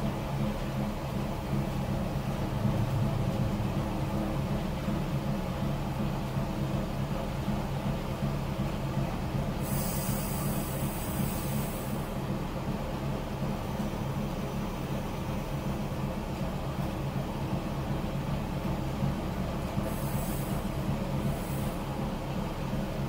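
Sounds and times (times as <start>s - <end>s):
diesel engine humming: 0.0s - 22.1s.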